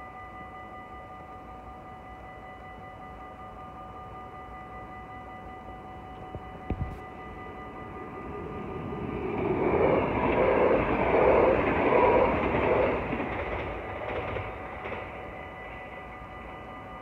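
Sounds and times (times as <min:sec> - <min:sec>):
electric train passing: 0:00.0 - 0:17.0
level crossing warning bells: 0:00.0 - 0:17.0.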